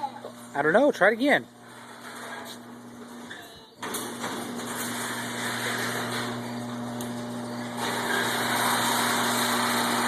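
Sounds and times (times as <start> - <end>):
garage door motor hum: 0.0 - 10.0.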